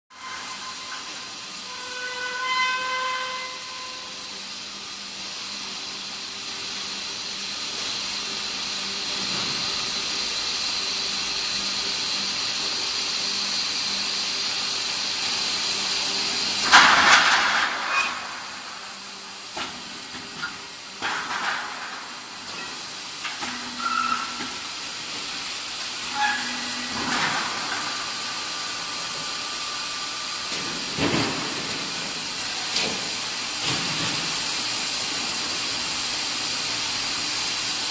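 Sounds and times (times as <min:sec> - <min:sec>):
machinery hiss: 0:00.2 - 0:37.9.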